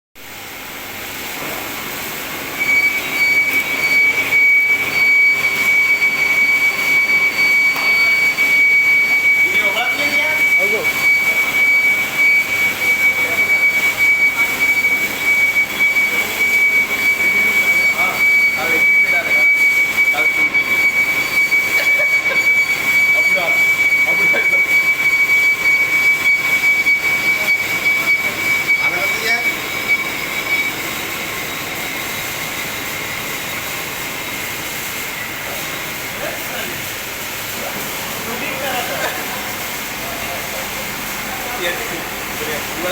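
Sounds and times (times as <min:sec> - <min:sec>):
lathe cutting metal whining: 0:00.6 - 0:42.9.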